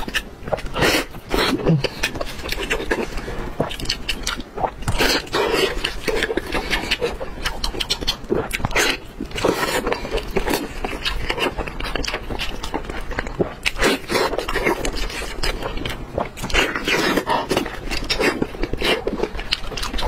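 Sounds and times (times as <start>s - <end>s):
wet chewing and lip smacking: 0.0s - 20.0s.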